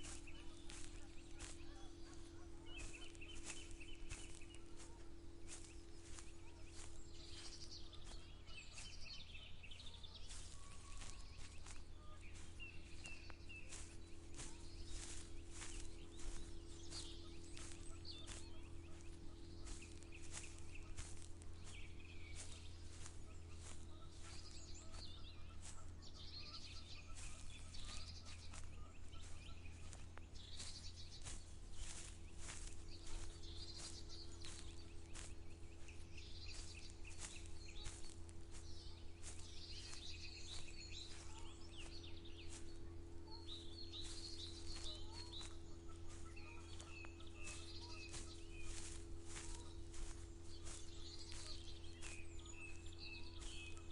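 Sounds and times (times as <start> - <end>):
birds singing and chirping: 0.0 - 53.9
footsteps walking: 0.0 - 53.9
low steady hum: 0.0 - 53.9.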